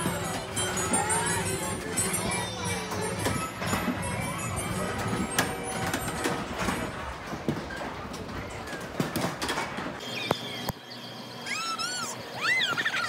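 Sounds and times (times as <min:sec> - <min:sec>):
carousel clatter: 0:00.0 - 0:13.0.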